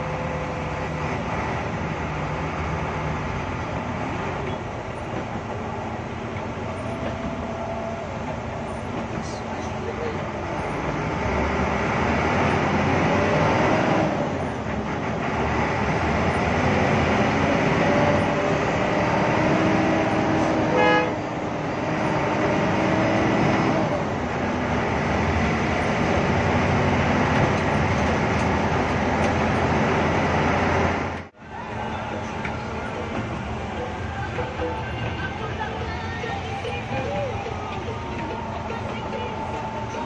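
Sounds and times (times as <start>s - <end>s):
bus diesel engine running: 0.0s - 40.0s
road noise: 0.0s - 40.0s.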